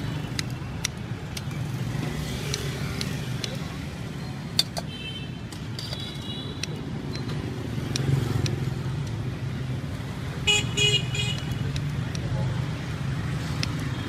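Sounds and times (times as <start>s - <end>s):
street traffic rumbling: 0.0s - 14.0s.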